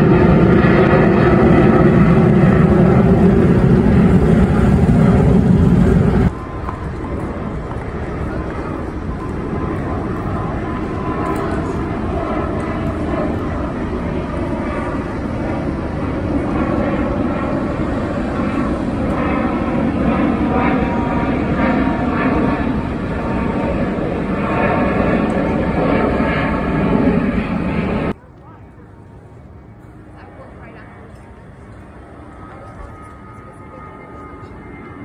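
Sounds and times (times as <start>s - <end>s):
jet engine rumble: 0.0s - 35.0s.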